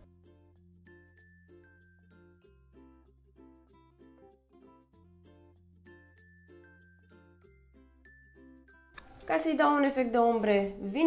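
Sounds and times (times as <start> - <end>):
soft plucked background music: 0.0 - 11.0.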